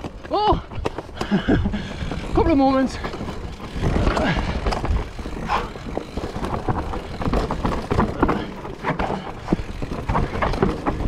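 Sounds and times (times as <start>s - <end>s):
bike clicks rattles and knocks: 0.0s - 11.0s
bike tyres rumbling on dirt: 0.0s - 11.0s.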